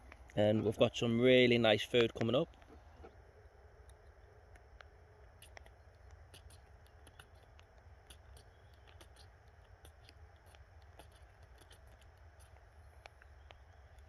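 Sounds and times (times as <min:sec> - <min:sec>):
faint small ticks and crackles: 0:00.0 - 0:03.2, 0:03.8 - 0:14.0
low steady hum: 0:00.0 - 0:14.0.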